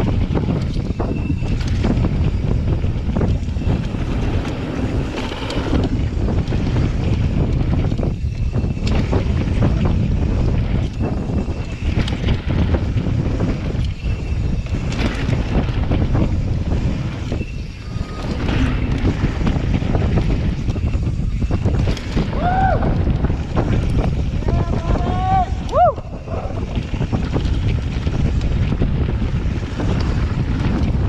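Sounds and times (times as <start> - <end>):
bike rattling over bumps: 0.0 - 31.0
bike tyres rumbling over dirt: 0.0 - 31.0
wind buffeting microphone: 0.0 - 31.0.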